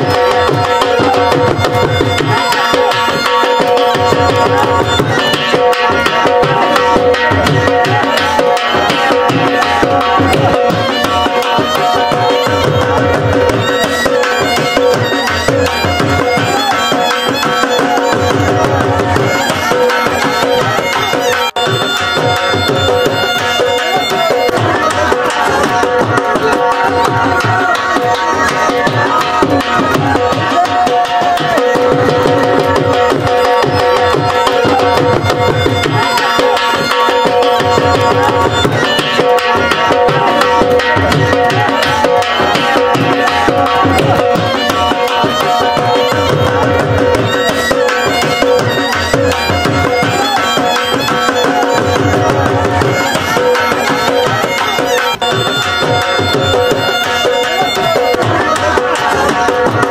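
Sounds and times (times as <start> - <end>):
drums beating: 0.0 - 59.9.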